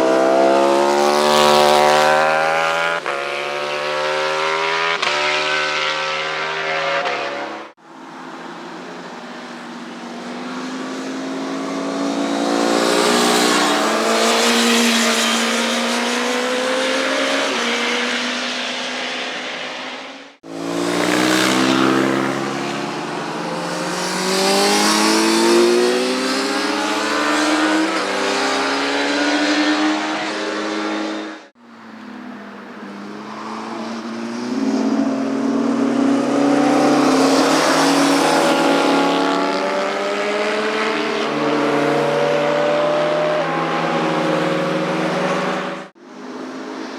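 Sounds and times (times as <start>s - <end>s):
motorcycles passing at speed: 0.0s - 46.9s.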